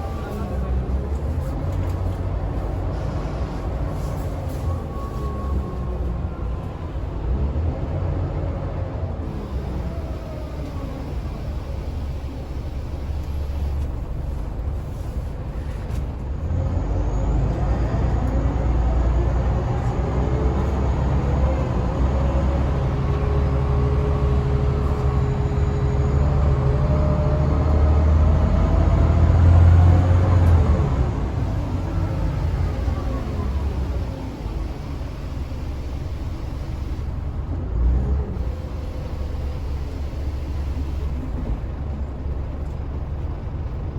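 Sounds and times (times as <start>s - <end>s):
bus diesel engine rumbling: 0.0s - 43.9s.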